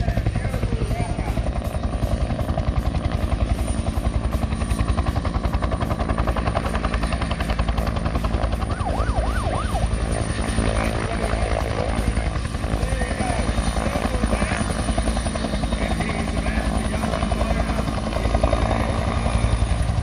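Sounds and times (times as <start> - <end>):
helicopter rotor chop: 0.0 - 20.0.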